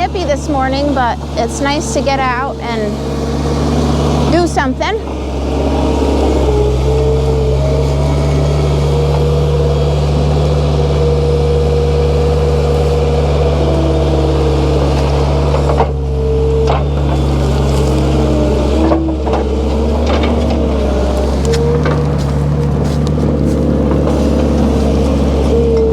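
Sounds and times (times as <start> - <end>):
skid steer engine drone: 0.0 - 25.9.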